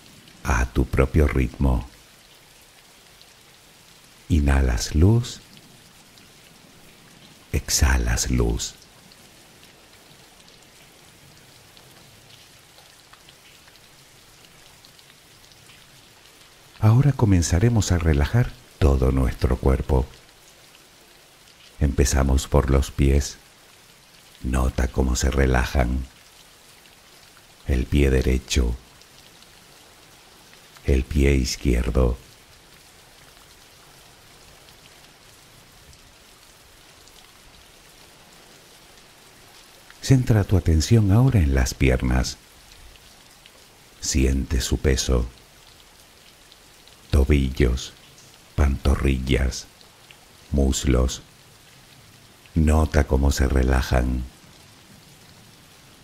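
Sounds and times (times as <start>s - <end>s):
raindrop ticks: 0.0s - 55.9s
faint steady rain: 0.0s - 56.0s.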